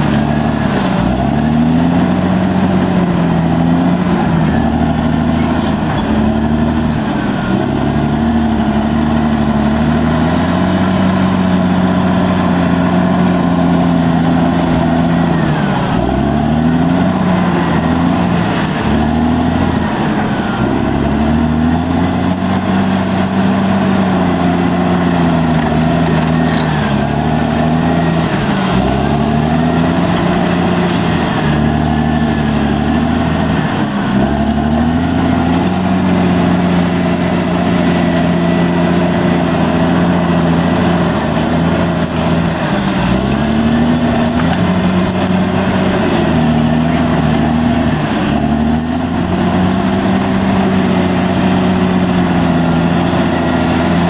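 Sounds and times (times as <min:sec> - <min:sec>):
bulldozer diesel engine working: 0:00.0 - 0:54.0.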